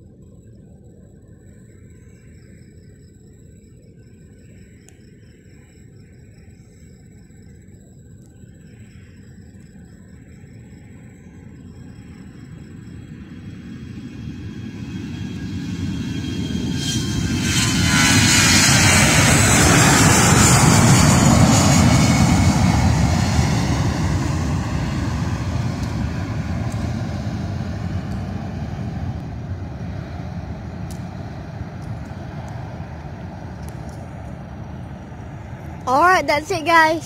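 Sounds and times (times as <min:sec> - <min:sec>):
jet engines roaring at takeoff: 0:00.0 - 0:37.0.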